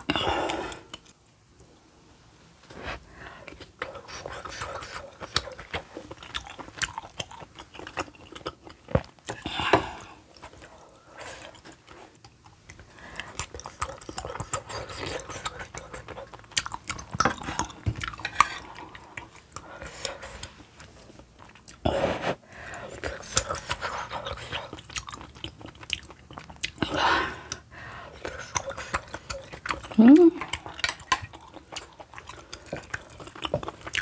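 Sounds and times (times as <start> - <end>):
chewing and wet mouth sounds: 3.4 - 21.9, 22.6 - 34.0.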